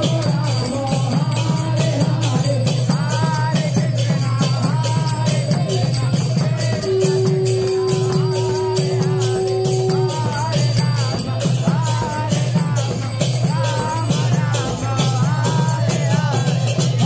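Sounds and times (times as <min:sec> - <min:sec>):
jingling hand percussion: 0:00.0 - 0:17.0
voices singing devotional music: 0:00.0 - 0:17.0.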